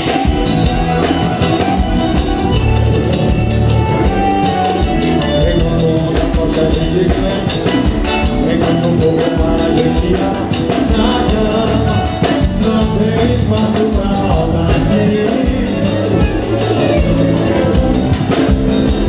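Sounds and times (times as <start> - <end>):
accordion melody: 0.0 - 19.0
drum and bass beat: 0.0 - 19.0.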